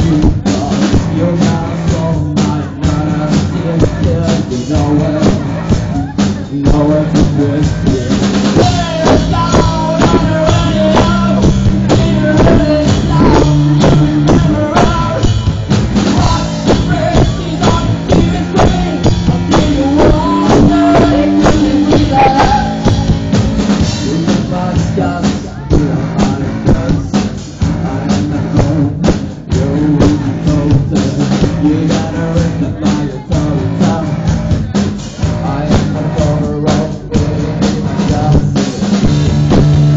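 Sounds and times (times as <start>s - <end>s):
melodic lead line: 0.0s - 36.3s
drum kit beat: 0.0s - 39.9s
electric guitar: 0.0s - 39.9s.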